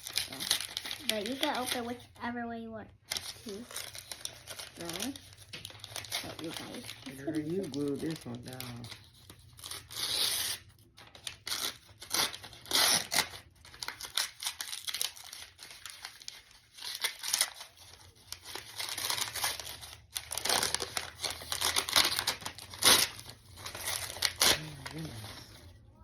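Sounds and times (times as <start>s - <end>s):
paper tearing and crumpling: 0.0s - 2.0s, 3.1s - 25.8s.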